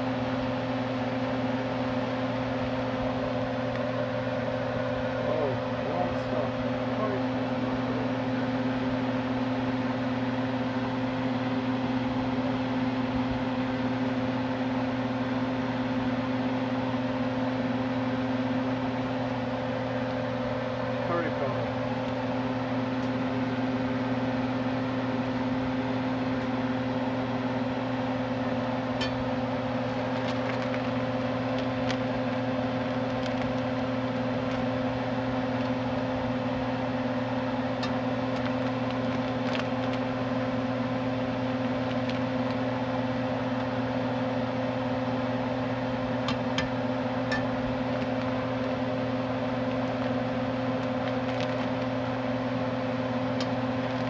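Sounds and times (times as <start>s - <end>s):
kitchen exhaust fan humming: 0.0s - 54.0s.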